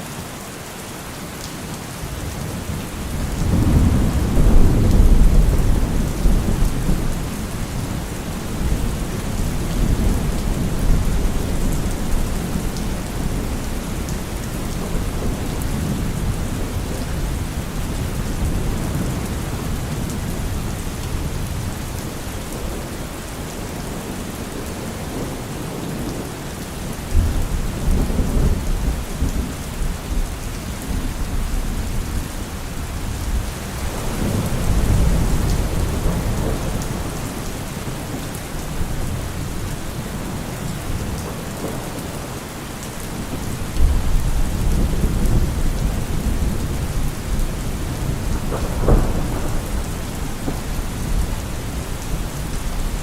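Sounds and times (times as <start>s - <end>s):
rain falling on leaves: 0.0s - 53.0s
low thunder rumbling: 2.3s - 22.9s, 26.8s - 42.4s, 43.0s - 53.0s.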